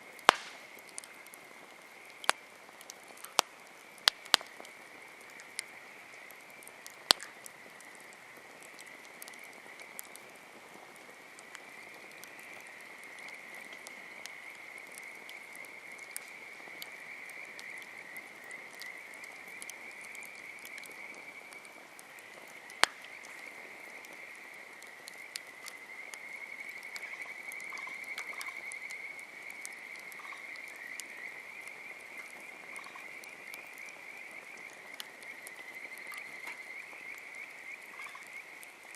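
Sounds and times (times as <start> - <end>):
burning firewood popping: 0.0 - 37.8
frogs calling: 0.0 - 38.9.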